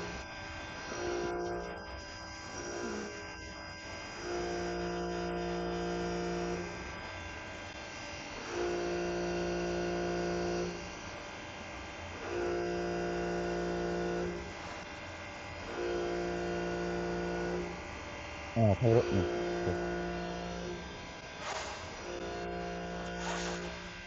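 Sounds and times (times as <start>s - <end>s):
lathe whining electrically: 0.0s - 24.0s.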